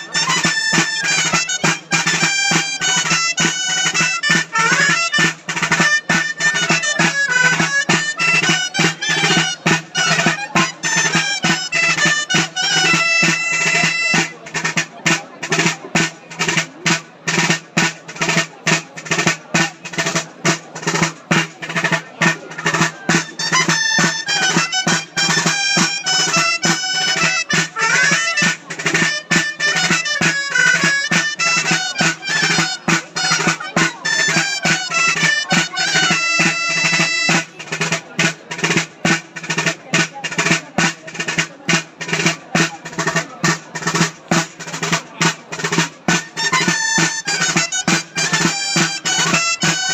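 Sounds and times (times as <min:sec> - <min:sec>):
drum beat: 0:00.0 - 0:49.9
reed wind instrument melody: 0:00.0 - 0:49.9.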